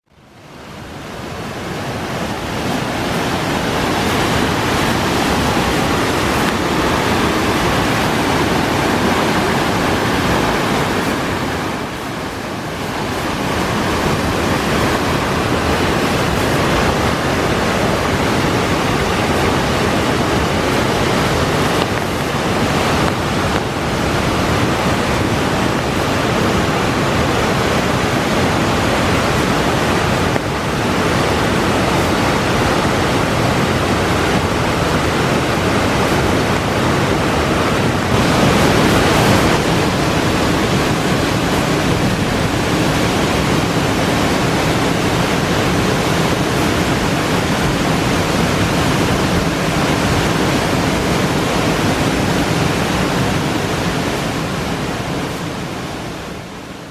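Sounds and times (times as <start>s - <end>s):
river and waterfall rushing: 0.1s - 56.9s.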